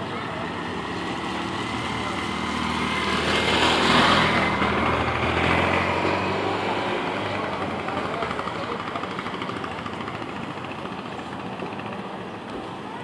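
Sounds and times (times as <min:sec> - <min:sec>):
vehicle engine passing by: 0:00.1 - 0:11.7.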